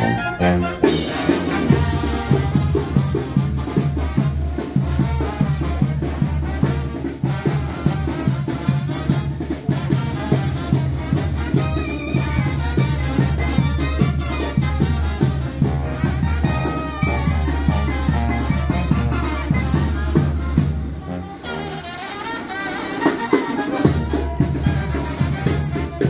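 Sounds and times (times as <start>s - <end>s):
latin dance music with brass: 0.0s - 26.0s.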